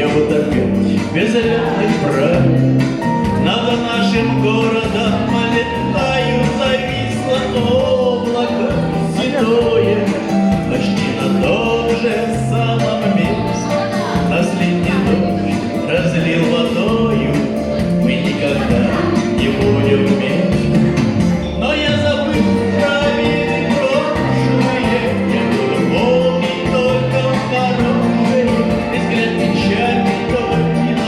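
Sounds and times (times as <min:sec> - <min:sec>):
man singing: 0:00.0 - 0:31.0
song with instrumental accompaniment: 0:00.0 - 0:31.0
steady bass line: 0:00.0 - 0:31.0.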